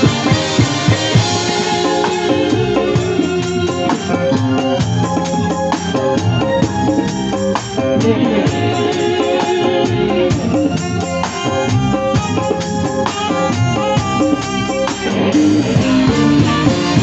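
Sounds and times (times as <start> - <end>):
drums: 0.0 - 17.0
guitar: 0.0 - 17.0
keyboard melody: 0.0 - 17.0.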